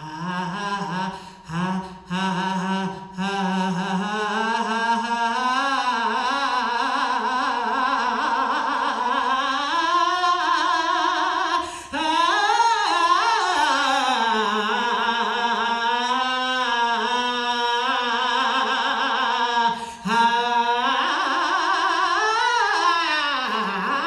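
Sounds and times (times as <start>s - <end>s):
woman singing with vibrato: 0.0s - 24.0s.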